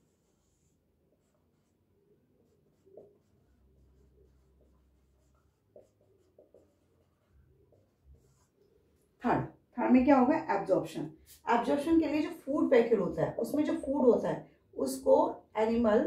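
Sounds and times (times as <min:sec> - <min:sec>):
marker pen writing on whiteboard: 0:00.0 - 0:16.0.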